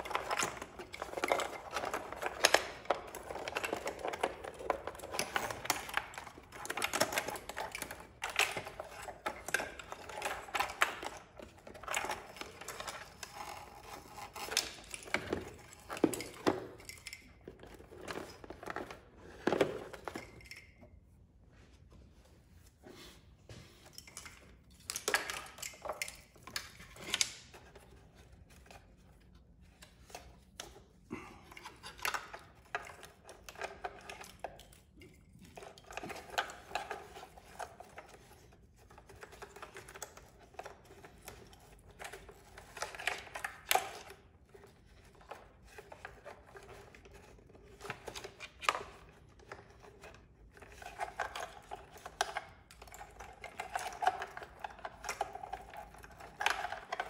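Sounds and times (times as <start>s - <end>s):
wiring rustling and scraping: 0.0s - 57.0s.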